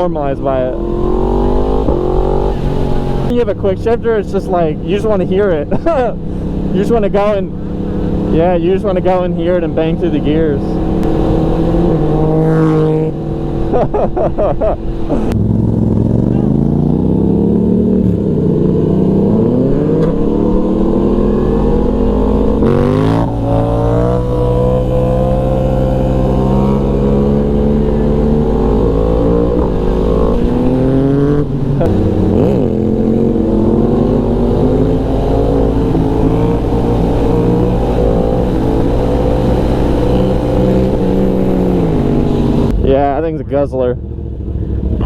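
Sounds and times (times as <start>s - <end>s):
motorcycle engine accelerating: 0.0s - 45.0s.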